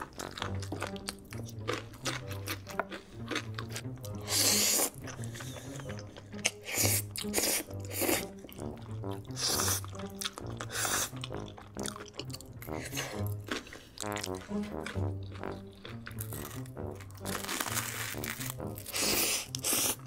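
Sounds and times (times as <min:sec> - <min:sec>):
slurping noodles: 0:00.0 - 0:20.0.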